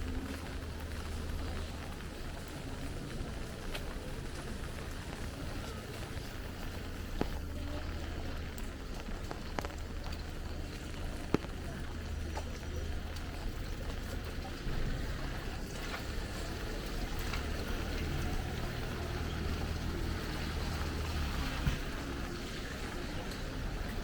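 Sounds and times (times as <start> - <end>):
city traffic hum: 0.0 - 24.0
light rain on an umbrella: 0.0 - 24.0.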